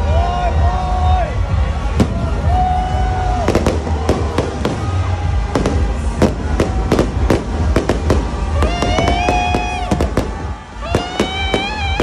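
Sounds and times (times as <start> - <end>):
fireworks bangs and cracks: 1.8 - 12.0.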